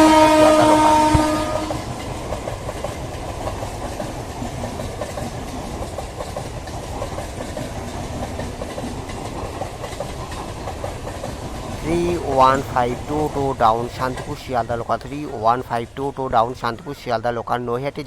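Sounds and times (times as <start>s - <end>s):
train rumbling past: 0.0s - 18.0s
wheels clicking over rail joints: 0.0s - 18.0s.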